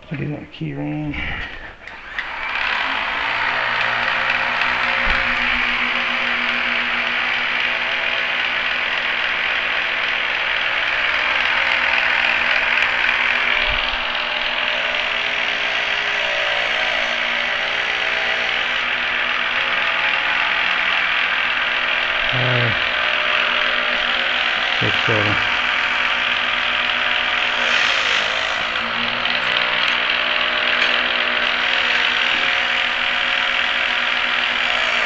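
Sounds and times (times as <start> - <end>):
key cutting machine running: 1.2 - 35.0.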